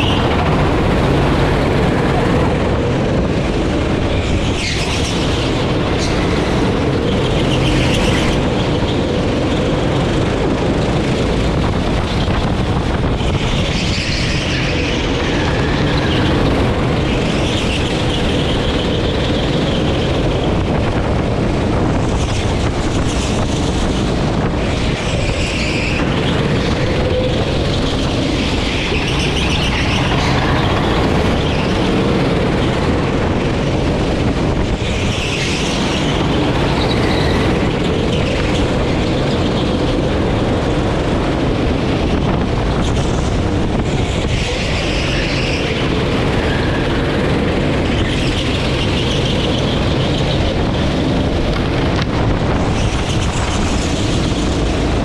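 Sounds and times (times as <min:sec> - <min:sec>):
kart engine droning: 0:00.0 - 0:55.0.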